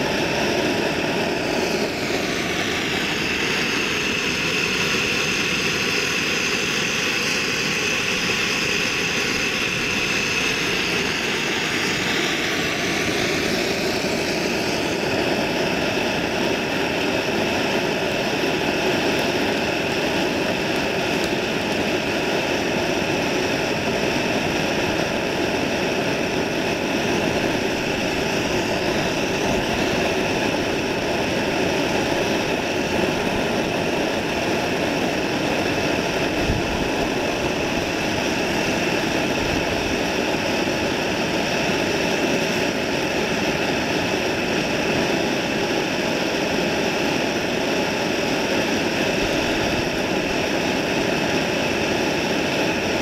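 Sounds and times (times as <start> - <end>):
large fire burning: 0.0 - 53.0.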